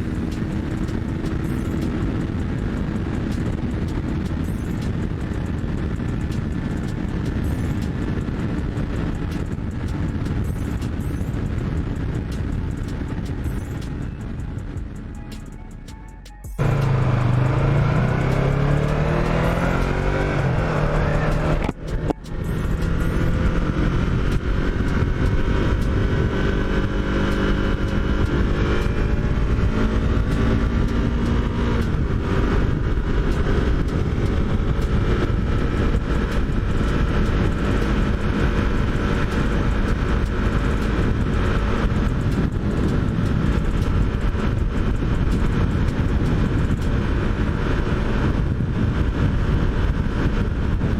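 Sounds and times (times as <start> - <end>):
heavy wind noise: 0.0 - 15.8, 16.5 - 50.9
motorcycle engine accelerating: 0.0 - 50.9.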